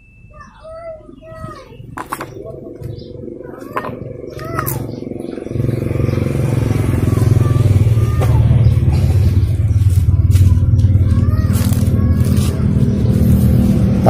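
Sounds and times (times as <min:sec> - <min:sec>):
motorcycle engine running: 0:01.6 - 0:14.0.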